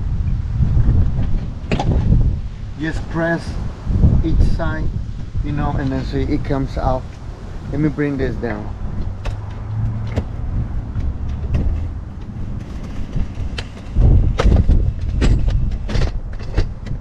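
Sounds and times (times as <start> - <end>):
low rumble and thumps: 0.0 - 17.0.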